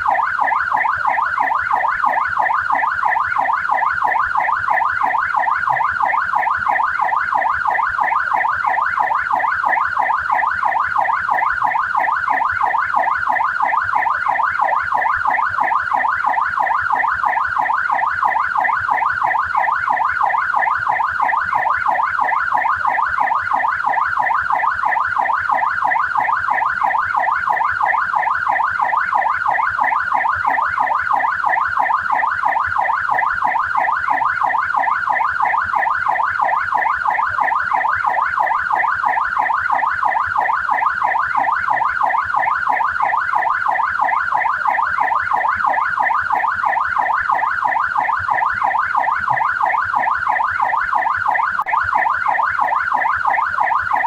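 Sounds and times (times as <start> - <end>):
police siren yelping: 0.0 - 54.0.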